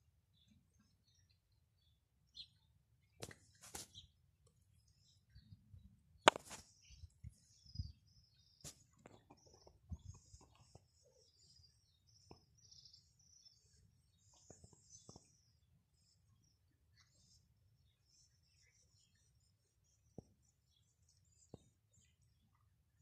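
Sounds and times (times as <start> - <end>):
faint small birds chirping: 0.0 - 23.0.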